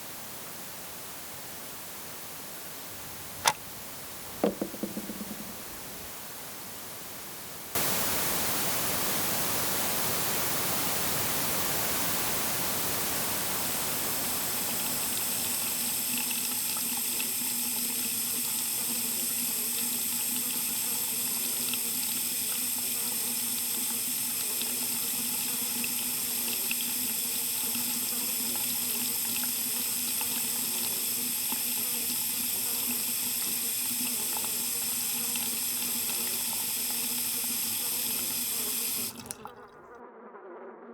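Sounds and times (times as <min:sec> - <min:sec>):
running water rushing: 0:04.2 - 0:39.7.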